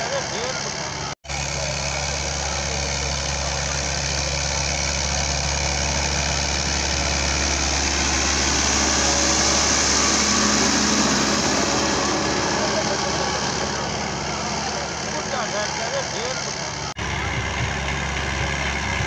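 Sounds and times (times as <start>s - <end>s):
tractor engine under load: 0.0s - 19.0s.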